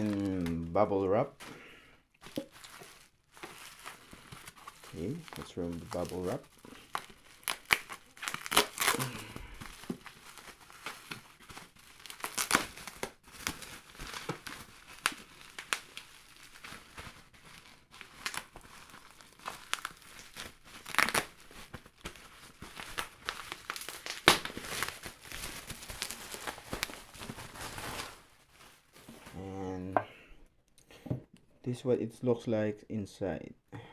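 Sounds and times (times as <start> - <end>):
bubble wrap crinkling and snapping: 0.0 - 29.6.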